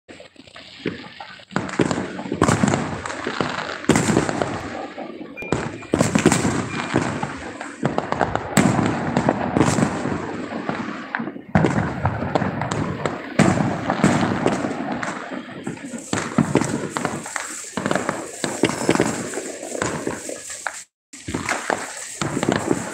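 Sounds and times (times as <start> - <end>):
fireworks bangs and crackle: 0.1 - 22.9.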